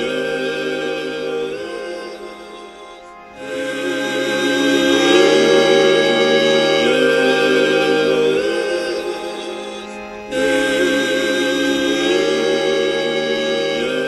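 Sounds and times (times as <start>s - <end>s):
slow sustained chords: 0.0s - 14.0s.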